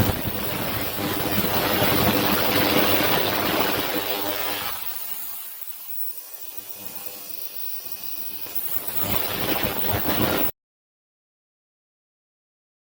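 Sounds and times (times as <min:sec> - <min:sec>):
ultrasonic cleaner buzzing hum: 0:00.0 - 0:10.5.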